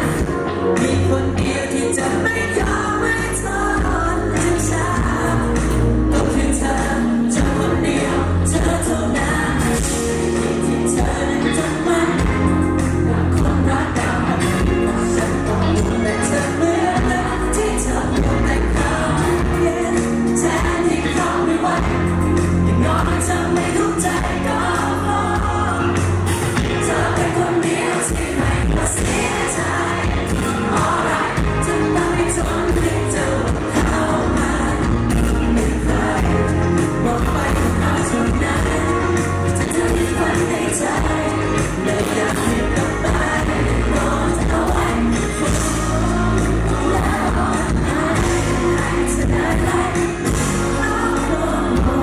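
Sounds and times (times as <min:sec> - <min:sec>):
person singing: 0:00.0 - 0:52.0
pop band playing: 0:00.0 - 0:52.0.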